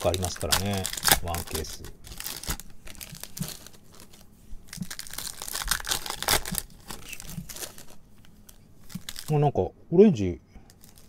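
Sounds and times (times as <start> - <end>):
foil wrapper crinkling and tearing: 0.0 - 9.5, 10.7 - 11.0.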